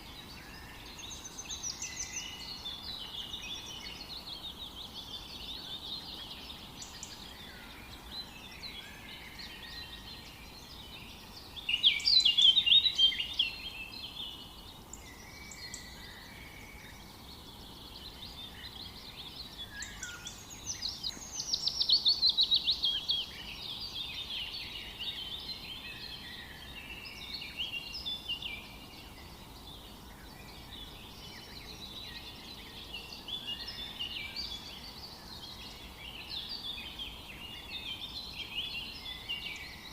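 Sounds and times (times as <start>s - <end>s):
faint background hiss: 0.0s - 39.9s
songbirds singing and calling: 0.0s - 39.9s.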